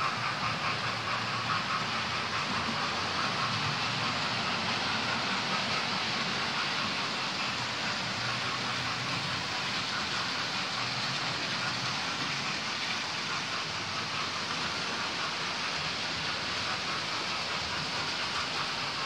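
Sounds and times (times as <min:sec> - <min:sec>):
model train wheels whirring on rails: 0:00.0 - 0:19.0.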